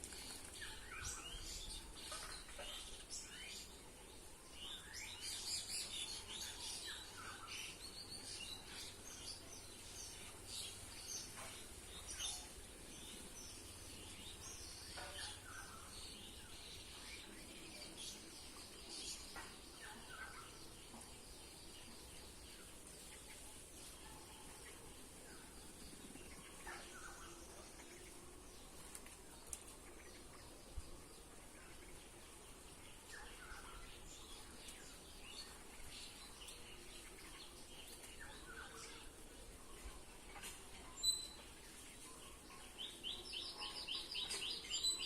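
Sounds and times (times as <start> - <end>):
faint high hiss: 0.0 - 45.0
small birds chirping: 0.0 - 45.0.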